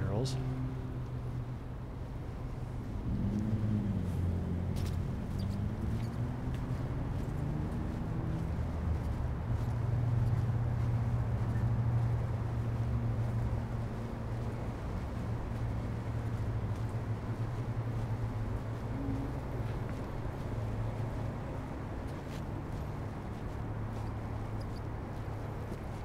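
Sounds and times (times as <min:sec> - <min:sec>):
city road traffic rumble: 0:00.0 - 0:26.0
heavy vehicle passing: 0:00.0 - 0:26.0.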